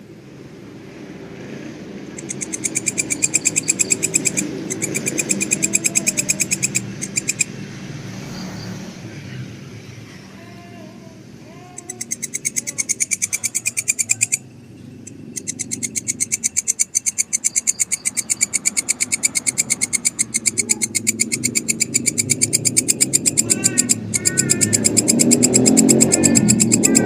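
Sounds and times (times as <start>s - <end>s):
grasshopper rasping: 2.1s - 8.8s, 11.5s - 27.0s.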